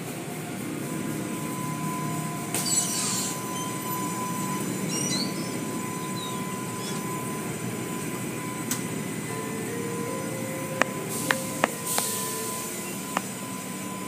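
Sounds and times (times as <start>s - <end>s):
car wash machinery hum: 0.0s - 14.0s.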